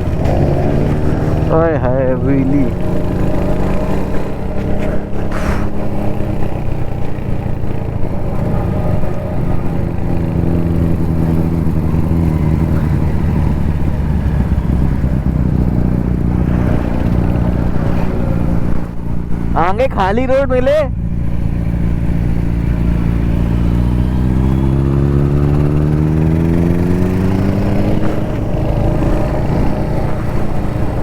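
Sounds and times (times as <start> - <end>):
motorcycle engine riding: 0.0 - 31.0.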